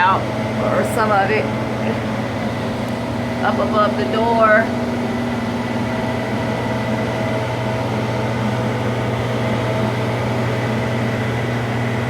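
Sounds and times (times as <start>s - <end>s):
motor or fan droning: 0.0s - 12.0s.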